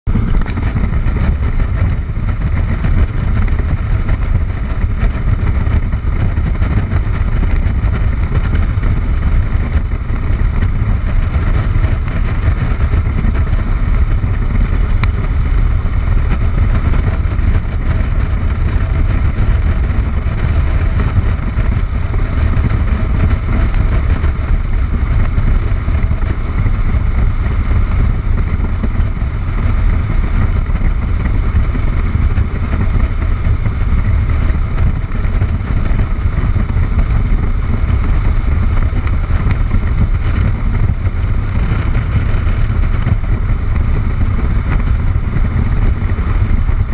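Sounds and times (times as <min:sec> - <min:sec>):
motorcycle engine and wind rumble: 0:00.0 - 0:46.9.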